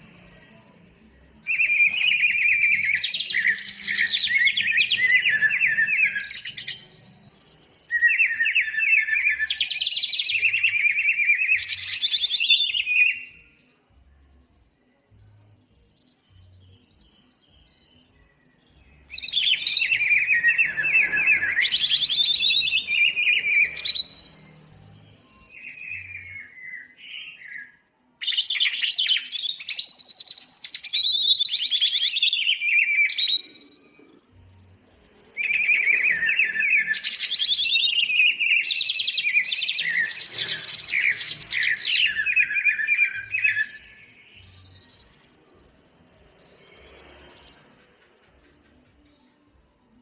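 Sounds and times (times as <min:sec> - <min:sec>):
bird warbling song: 0:01.4 - 0:13.6, 0:16.0 - 0:45.4.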